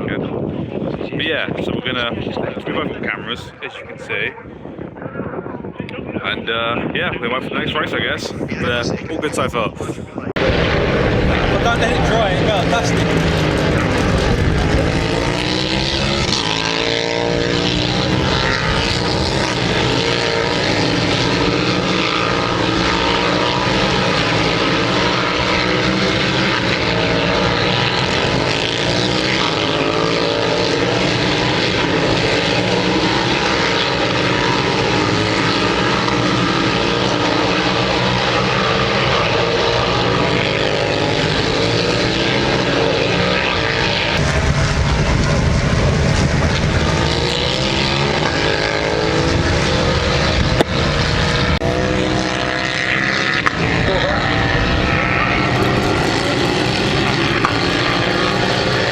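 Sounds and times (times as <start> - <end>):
motorbike engines revving: 8.2 - 58.9.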